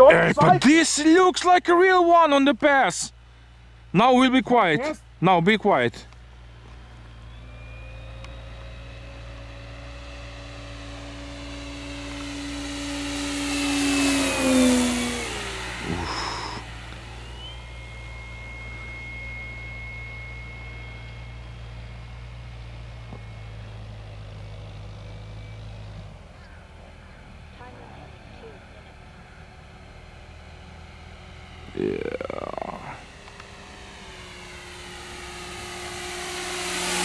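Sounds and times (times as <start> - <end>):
model plane motor whine: 6.1 - 37.0.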